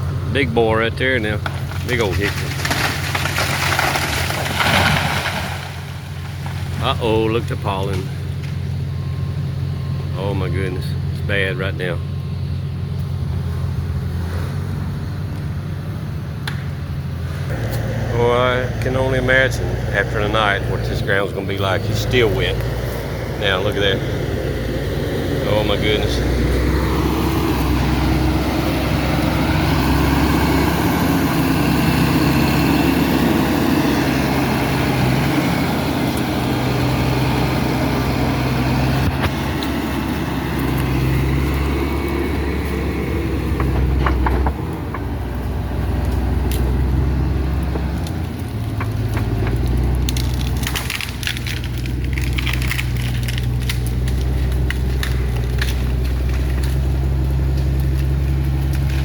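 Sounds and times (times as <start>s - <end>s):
diesel engine running: 0.0s - 59.0s
wood cracking and snapping: 1.2s - 8.8s, 17.4s - 59.0s.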